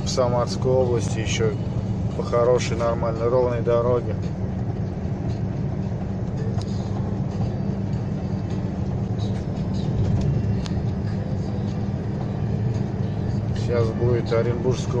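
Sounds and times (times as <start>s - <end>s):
truck engine and tyres droning: 0.0s - 15.0s.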